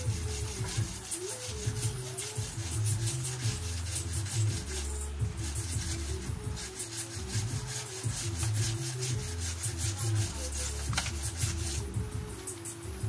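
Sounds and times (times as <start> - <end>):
background music: 0.0 - 13.0
rhythmic sanding strokes: 0.0 - 13.0.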